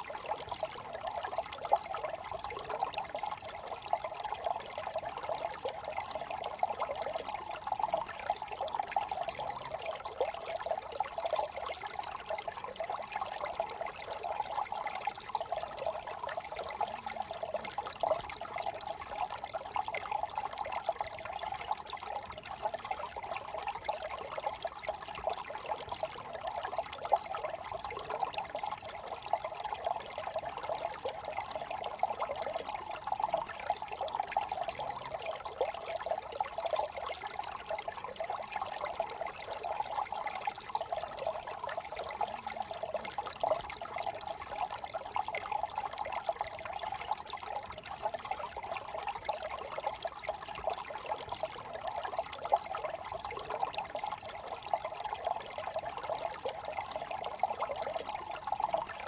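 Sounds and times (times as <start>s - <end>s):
brook trickling over stones: 0.0s - 59.0s.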